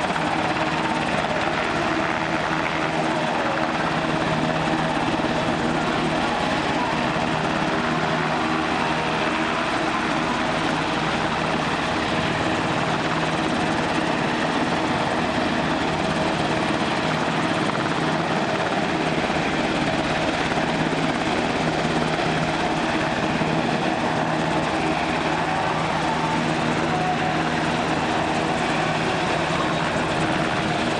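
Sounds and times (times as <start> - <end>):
helicopter rotors and engines: 0.0 - 30.9.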